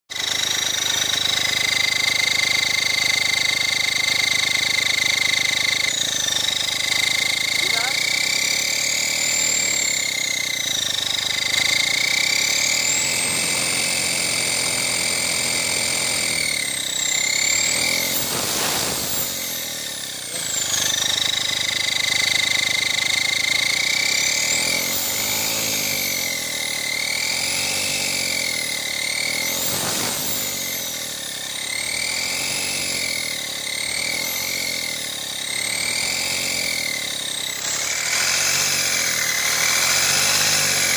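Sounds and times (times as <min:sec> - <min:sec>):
engine rev blips: 0:00.1 - 0:40.9
turbocharger whining: 0:00.1 - 0:40.9.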